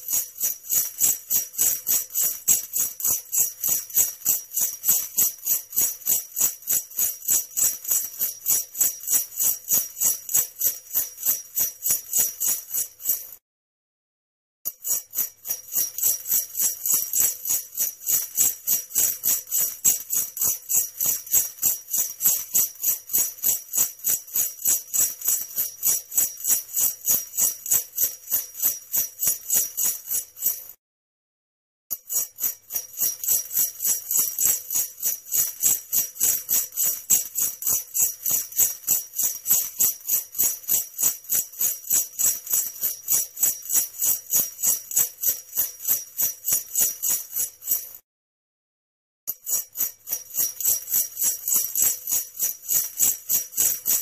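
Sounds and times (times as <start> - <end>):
sleigh bells jingling: 0.0 - 13.4, 14.7 - 30.8, 31.9 - 48.0, 49.4 - 54.0.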